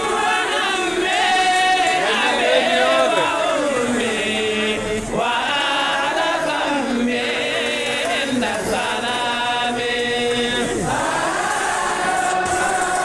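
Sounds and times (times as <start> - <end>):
men chanting in long held notes: 0.0 - 13.0.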